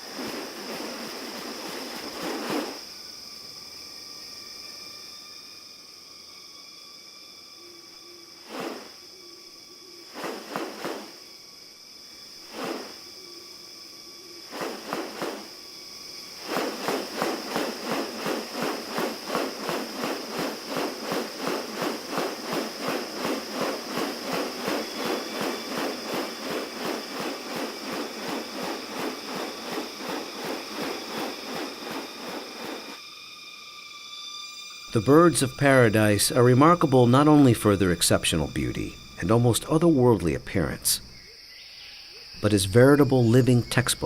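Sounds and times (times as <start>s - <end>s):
high insect drone: 0.0s - 44.0s.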